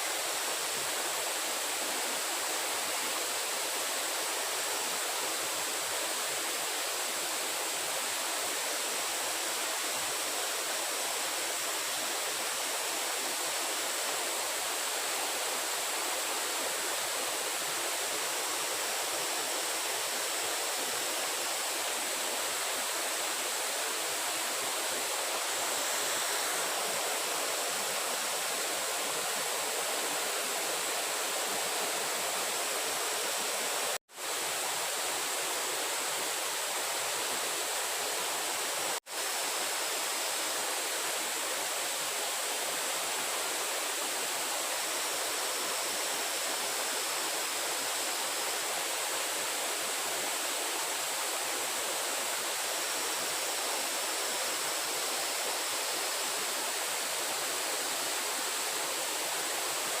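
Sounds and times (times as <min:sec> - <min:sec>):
rushing water: 0:00.0 - 1:00.0.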